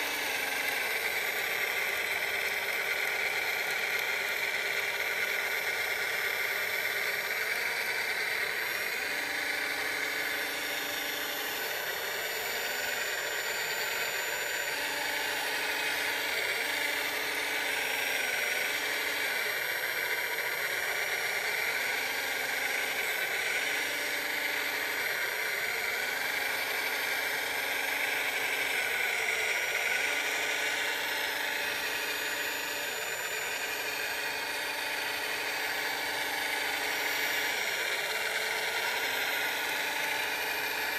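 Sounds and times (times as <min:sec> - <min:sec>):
electric motors whirring: 0:00.0 - 0:40.9.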